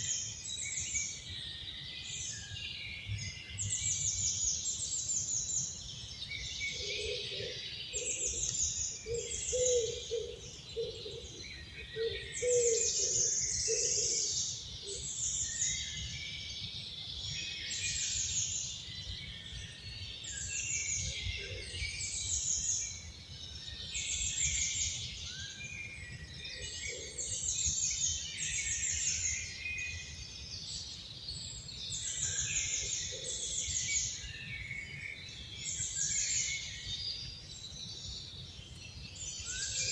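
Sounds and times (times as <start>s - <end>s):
songbirds singing trilled phrases: 0.0s - 39.9s.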